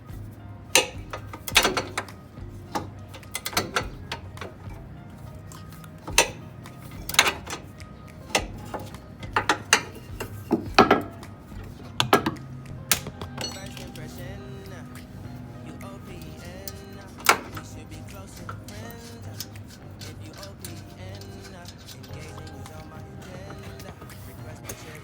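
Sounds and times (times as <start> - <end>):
background music: 0.0 - 25.0
metal clinking: 0.0 - 25.0.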